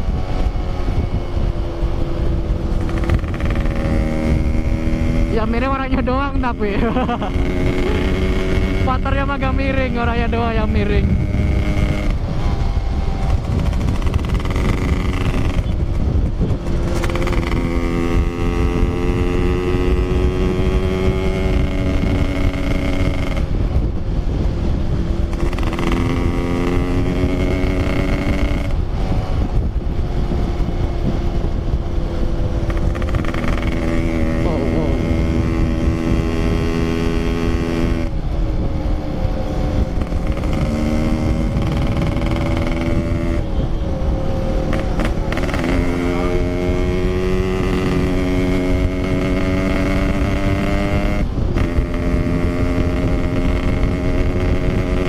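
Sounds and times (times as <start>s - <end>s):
motorcycle engine revving: 0.0s - 55.0s
wind rumble on microphone: 0.0s - 55.0s.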